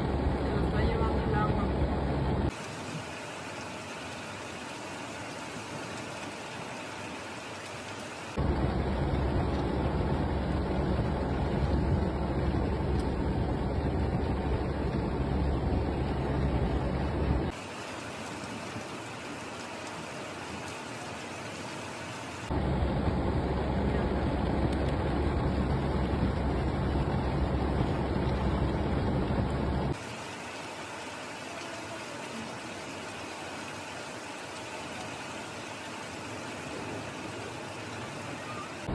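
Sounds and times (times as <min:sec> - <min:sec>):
heavy rain: 0:00.0 - 0:38.9
rushing floodwater: 0:00.0 - 0:38.9.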